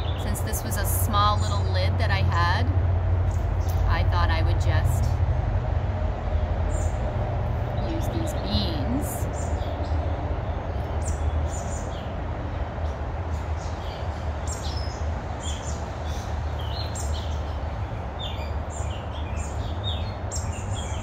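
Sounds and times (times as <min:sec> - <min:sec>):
birds chirping: 0:00.0 - 0:05.2, 0:06.2 - 0:21.0
low background rumble: 0:00.0 - 0:21.0.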